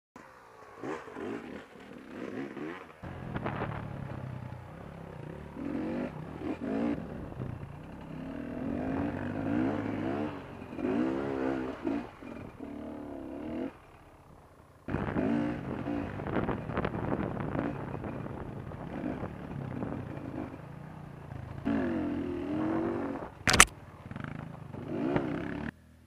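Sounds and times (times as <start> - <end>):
motorbike engine revving: 0.2 - 13.8, 14.9 - 25.8.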